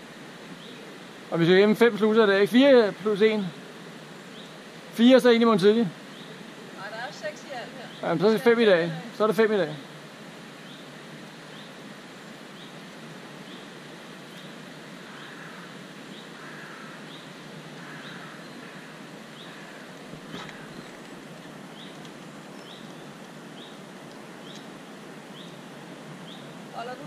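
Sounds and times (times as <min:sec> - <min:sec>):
background hiss: 0:00.0 - 0:27.0.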